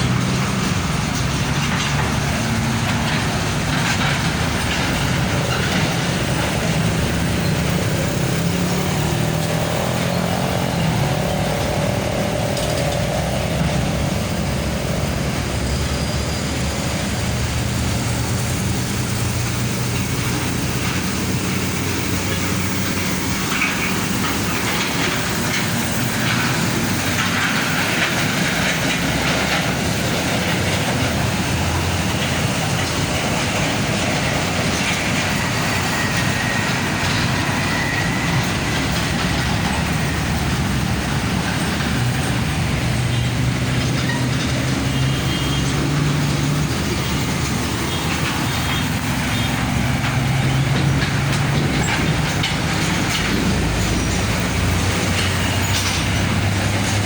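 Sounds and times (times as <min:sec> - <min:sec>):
trucks driving past: 0:00.0 - 0:57.0.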